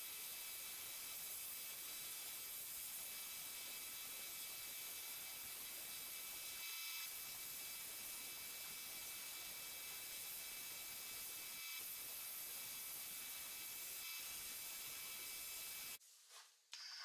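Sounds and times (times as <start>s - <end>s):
sandblasting gun hissing: 0.0s - 16.0s.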